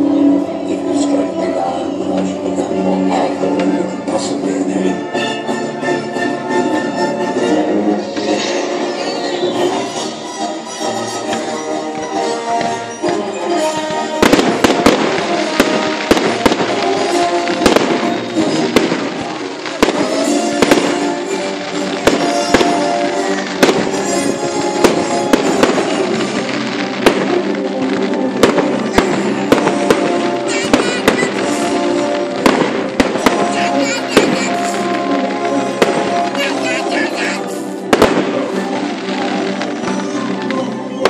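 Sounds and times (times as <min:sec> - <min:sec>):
fireworks bangs and crackling: 0:00.0 - 0:41.0
loud music with held notes: 0:00.0 - 0:41.0.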